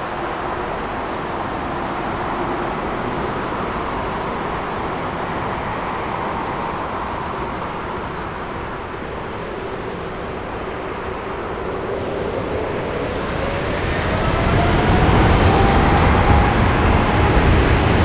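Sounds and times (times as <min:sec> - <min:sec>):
jet engines spooling up: 0:00.0 - 0:18.0.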